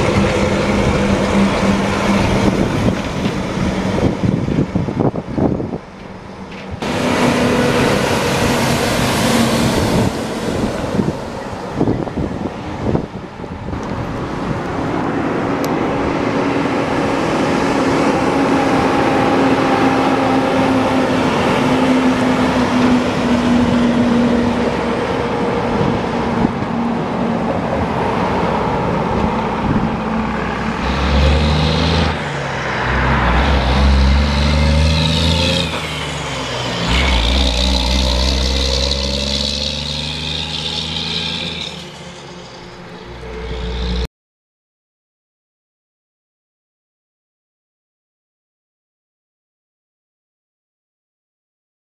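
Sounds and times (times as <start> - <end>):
heavy diesel trucks passing: 0.0 - 44.1
tyre and road noise: 0.0 - 44.1.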